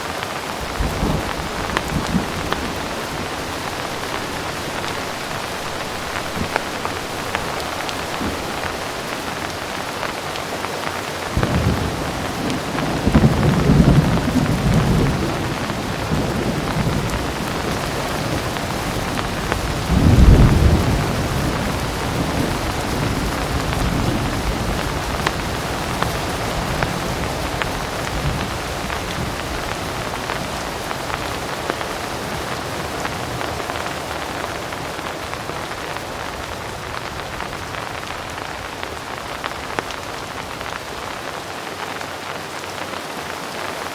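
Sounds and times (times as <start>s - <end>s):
heavy rain falling: 0.0s - 43.9s
thunder rumbling: 0.4s - 41.3s.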